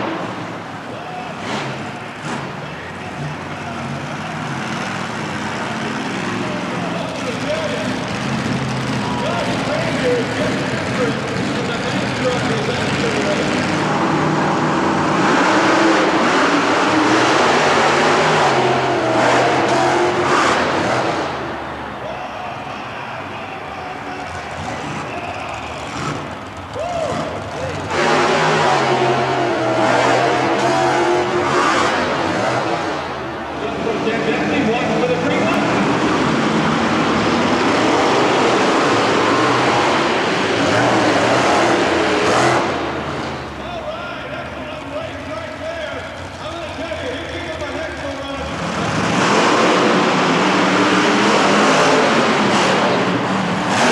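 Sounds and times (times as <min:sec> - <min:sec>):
truck engine running loud: 0:00.0 - 0:53.9.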